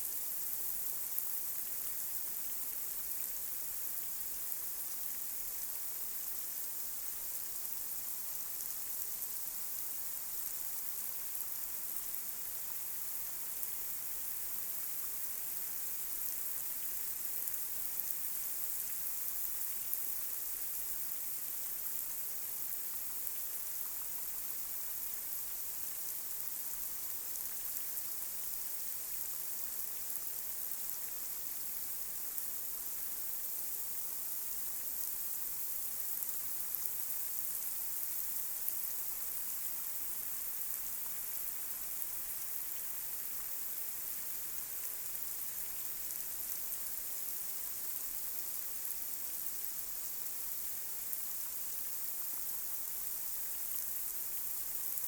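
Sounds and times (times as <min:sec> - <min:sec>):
light rain on a street: 0:00.0 - 0:55.0.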